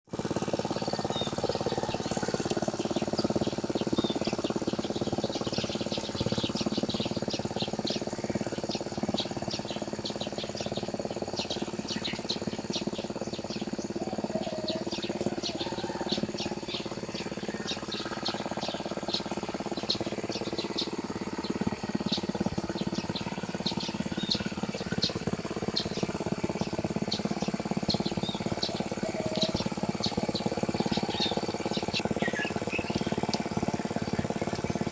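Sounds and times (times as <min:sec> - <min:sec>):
steady low drone: 0:00.1 - 0:34.9
birds chirping: 0:00.7 - 0:34.9.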